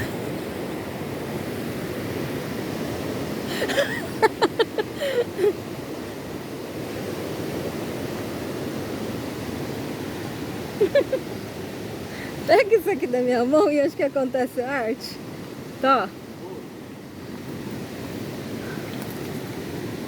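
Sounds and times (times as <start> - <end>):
waterfall roaring: 0.0 - 1.1, 1.9 - 20.0.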